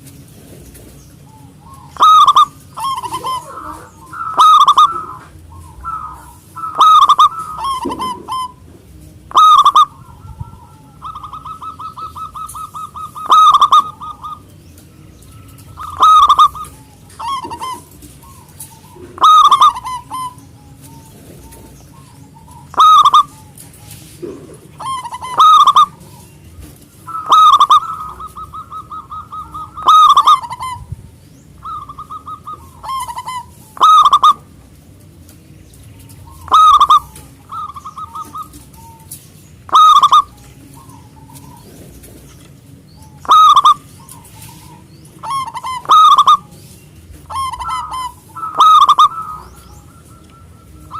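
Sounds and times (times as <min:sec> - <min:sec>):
dove cooing: 0:00.0 - 0:50.9
rapid rolling trills: 0:00.0 - 0:50.9.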